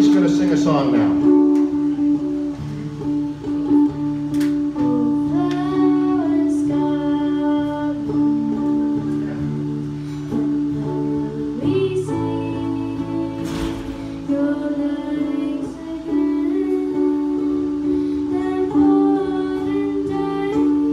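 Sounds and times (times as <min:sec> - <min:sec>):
amplified acoustic guitar: 0:00.0 - 0:20.9
person singing: 0:00.9 - 0:20.9.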